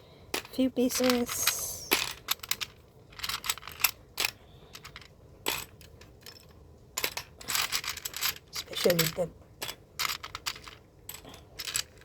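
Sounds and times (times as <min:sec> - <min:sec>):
plastic pieces clicking and clattering: 0:00.3 - 0:12.0.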